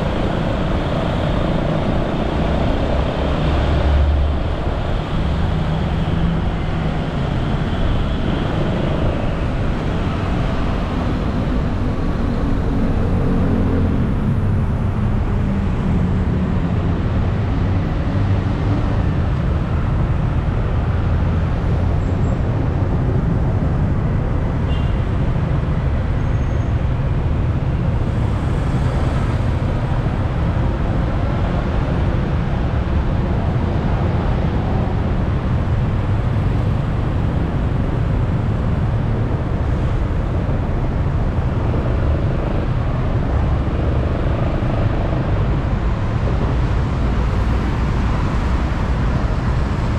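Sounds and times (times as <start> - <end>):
wind noise: 0.0 - 49.9.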